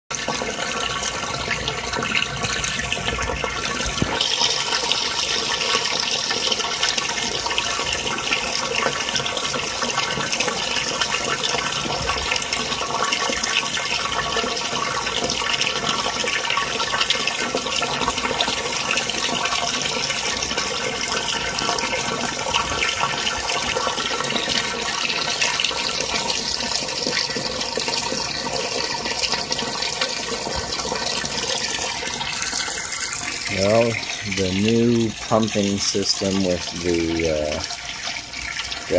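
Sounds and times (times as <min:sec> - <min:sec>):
water jet splashing into tank: 0:00.1 - 0:38.9.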